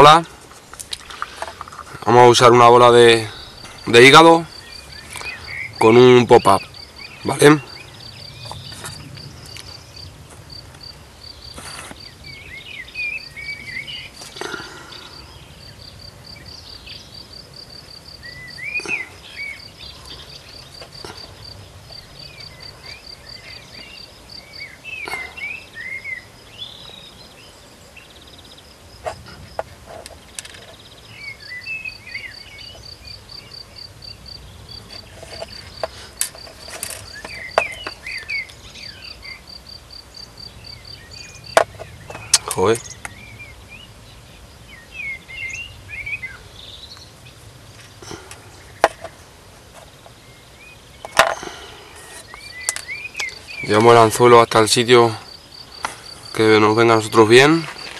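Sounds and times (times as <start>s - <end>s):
insect chirping: 0.0s - 57.9s
small birds calling: 0.0s - 57.9s.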